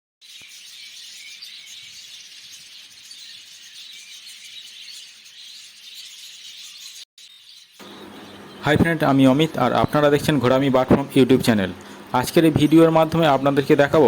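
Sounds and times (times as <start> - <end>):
budgerigars chirping: 0.3 - 14.0.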